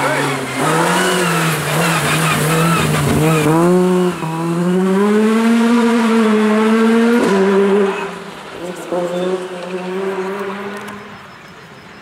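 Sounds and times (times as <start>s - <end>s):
rally car engine at high revs: 0.0s - 11.3s.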